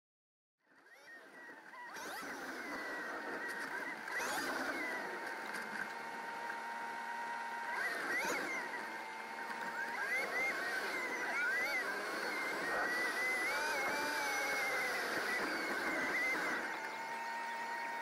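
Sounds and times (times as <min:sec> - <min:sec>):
car engine in cabin: 0:00.9 - 0:18.0.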